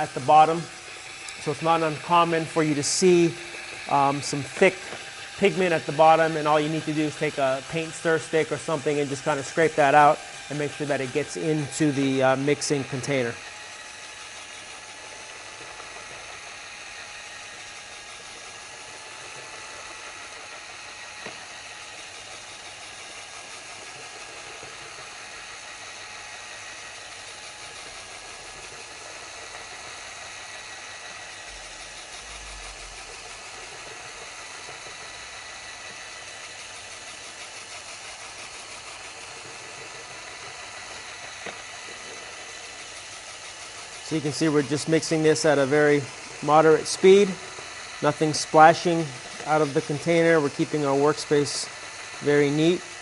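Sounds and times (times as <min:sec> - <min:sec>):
drill motor hum: 0:00.0 - 0:53.0.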